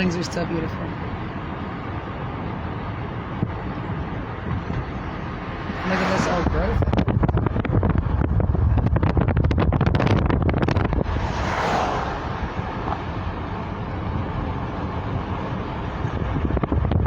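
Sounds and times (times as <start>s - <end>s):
car driving rumble: 0.0s - 17.0s
wind buffeting a microphone: 3.2s - 17.0s.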